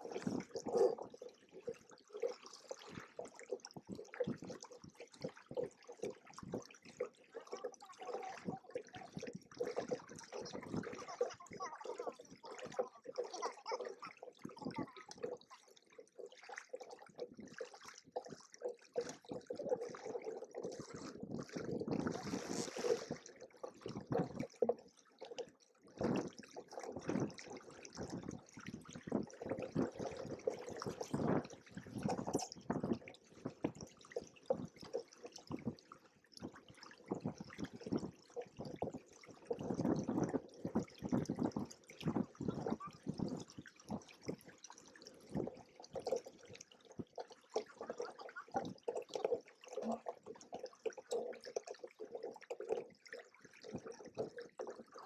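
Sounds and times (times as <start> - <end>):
water splashing against hulls: 0.0 - 55.0.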